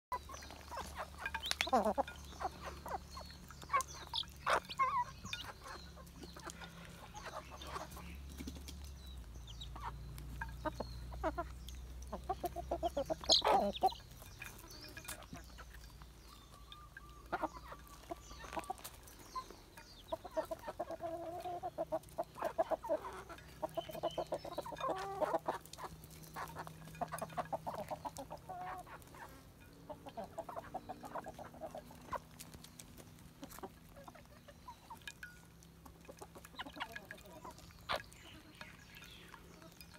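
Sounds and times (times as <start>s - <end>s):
beaks pecking at a dish: 0.1s - 39.9s
chickens clucking: 0.1s - 39.9s.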